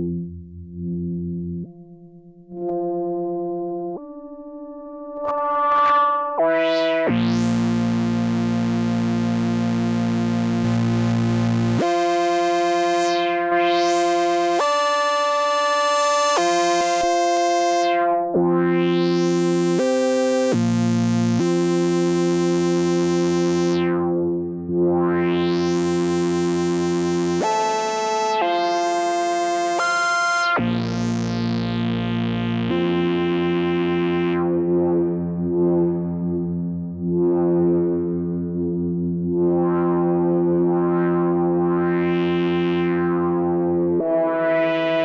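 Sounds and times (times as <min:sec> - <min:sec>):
synthesizer pad with filter sweeps: 0:02.5 - 0:45.0.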